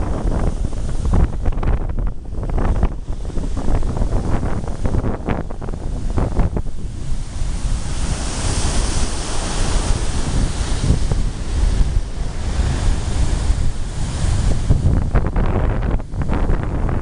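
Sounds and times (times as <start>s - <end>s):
surf washing on shore: 0.0s - 17.0s
wind buffeting microphone: 0.0s - 17.0s.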